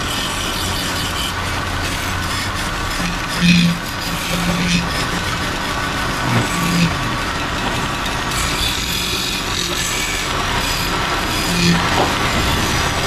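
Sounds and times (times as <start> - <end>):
chisel scraping spinning wood: 0.0 - 13.0
wood lathe running: 0.0 - 13.0.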